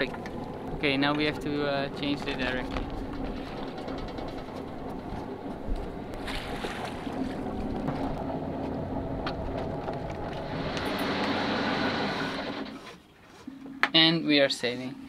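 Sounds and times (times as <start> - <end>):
water noise: 0.0 - 12.8
boat engine running: 0.0 - 12.9
wind: 0.0 - 15.0.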